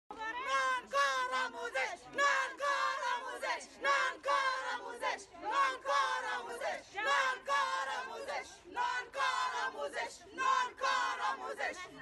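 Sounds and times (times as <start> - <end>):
women chanting in unison: 0.1 - 12.0.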